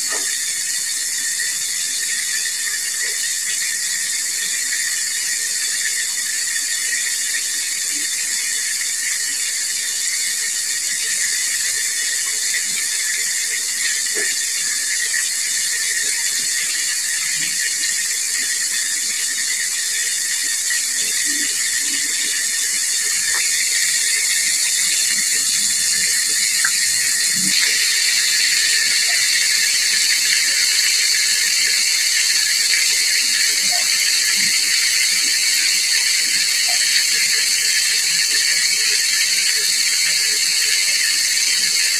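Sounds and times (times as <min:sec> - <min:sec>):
deep-frying oil sizzle: 0:00.0 - 0:41.9.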